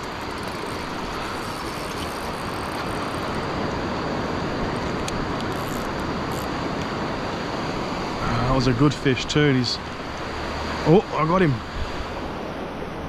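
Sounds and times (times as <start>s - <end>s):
ocean surf breaking on rocks: 0.0s - 13.0s.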